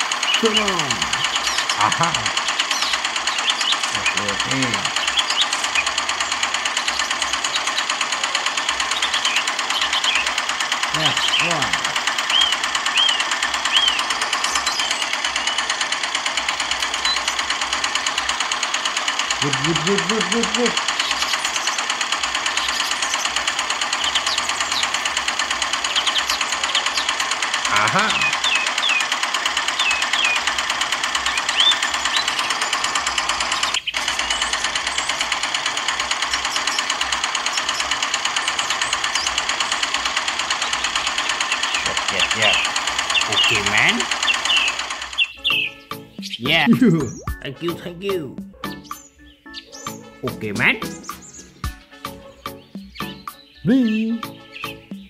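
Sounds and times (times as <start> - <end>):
small motor clattering: 0.0 - 46.3, 54.2 - 55.0.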